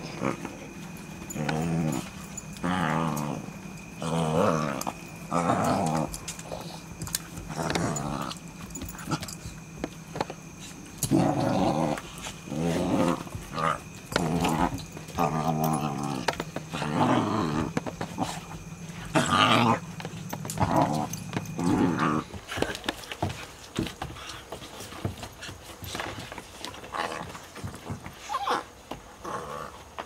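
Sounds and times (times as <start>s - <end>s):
dogs growling: 0.0s - 24.4s, 25.9s - 30.0s.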